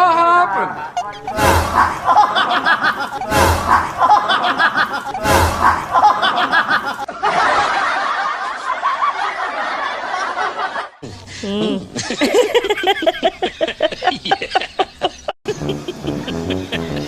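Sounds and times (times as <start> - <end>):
people laughing: 0.7 - 17.0.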